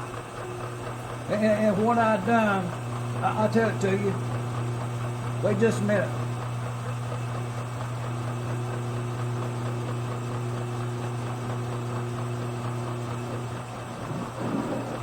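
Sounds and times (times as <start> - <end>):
low electric machine hum: 0.0 - 15.0.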